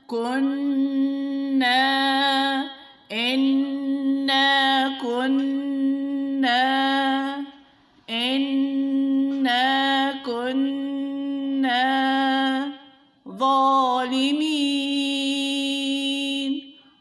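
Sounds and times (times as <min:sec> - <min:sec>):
person chanting recitation: 0:00.0 - 0:16.8.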